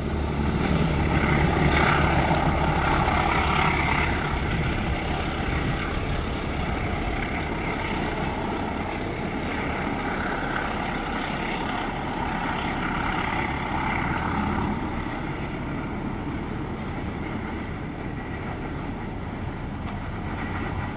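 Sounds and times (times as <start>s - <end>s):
train rumbling past: 0.0s - 20.9s.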